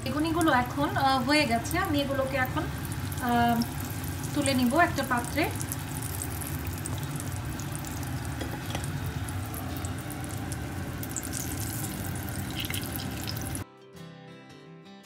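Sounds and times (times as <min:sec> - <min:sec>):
food deep-frying in hot oil: 0:00.0 - 0:13.6.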